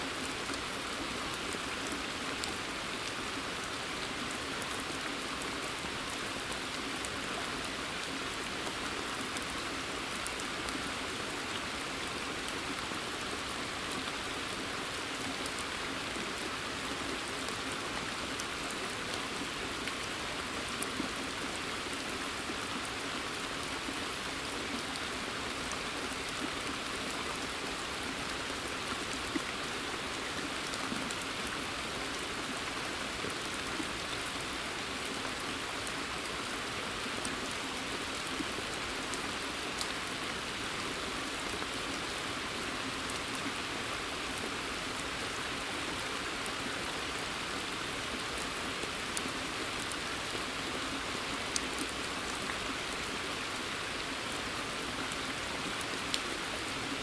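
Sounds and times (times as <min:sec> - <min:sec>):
rain on forest and pond: 0:00.0 - 0:57.0.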